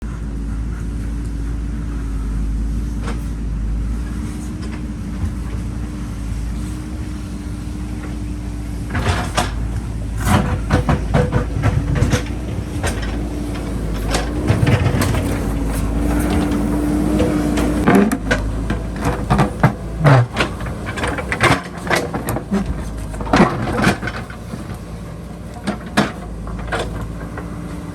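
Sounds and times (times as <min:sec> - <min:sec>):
diesel engine running: 0:00.0 - 0:27.9
bucket scraping rock and soil: 0:03.0 - 0:27.9.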